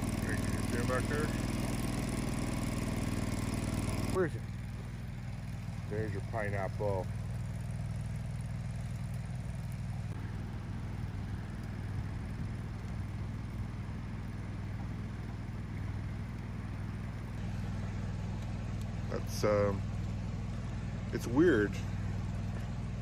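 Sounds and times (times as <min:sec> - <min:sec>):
generator engine drone: 0:00.0 - 0:23.0.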